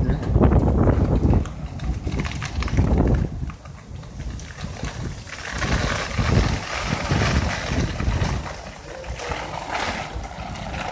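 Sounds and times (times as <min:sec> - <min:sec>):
storm wind buffeting microphone: 0:00.0 - 0:10.9.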